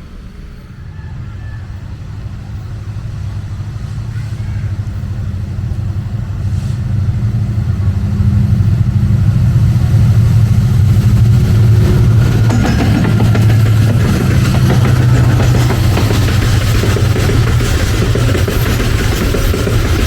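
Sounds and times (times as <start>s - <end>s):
diesel locomotive engine hum: 0.0s - 20.0s.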